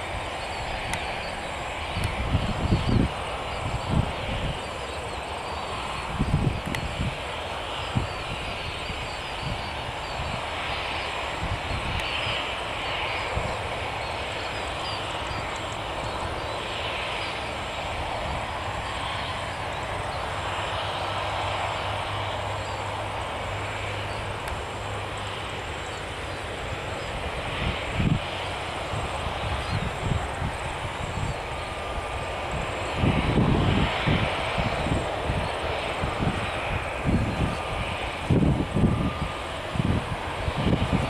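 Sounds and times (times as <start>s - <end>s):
propeller plane engines droning: 0.0s - 41.0s.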